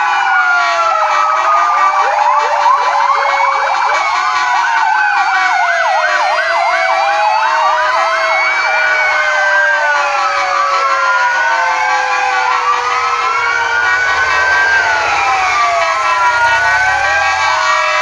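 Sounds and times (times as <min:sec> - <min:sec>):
fire engine sirens wailing: 0:00.0 - 0:18.0.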